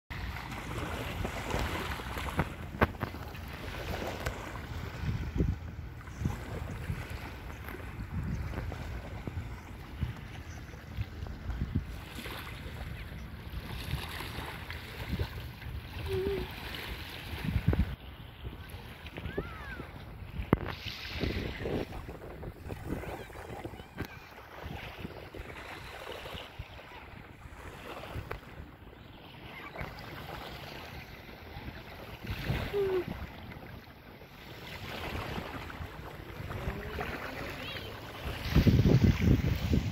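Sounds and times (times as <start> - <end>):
small waves lapping on sand: 0.1 - 39.9
wind rumbling on microphone: 0.1 - 39.9.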